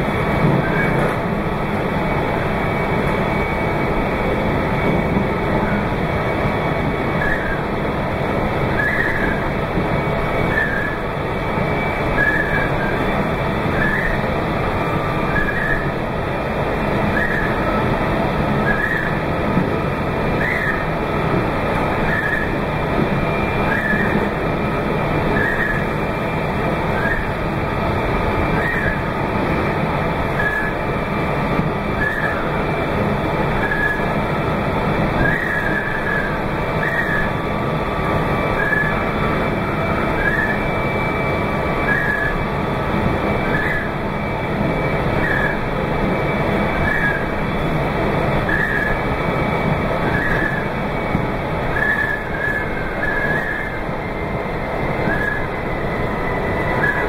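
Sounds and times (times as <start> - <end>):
train running: 0.0 - 57.0.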